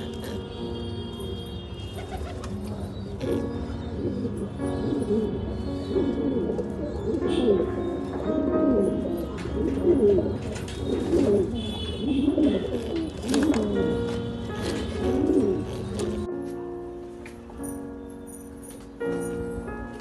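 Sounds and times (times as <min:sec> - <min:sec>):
pigeons cooing: 0:00.0 - 0:16.4
background music: 0:00.0 - 0:20.0.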